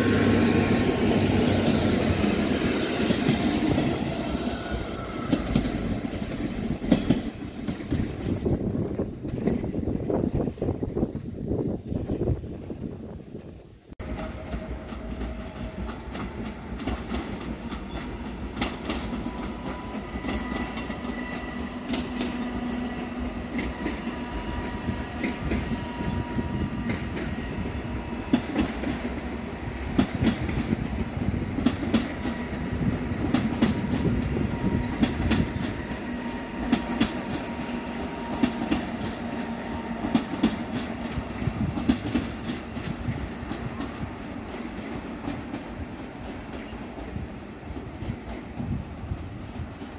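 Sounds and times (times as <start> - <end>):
train wheels clacking over rails: 0.0 - 10.0, 14.0 - 49.9
steady train hum: 0.0 - 49.9.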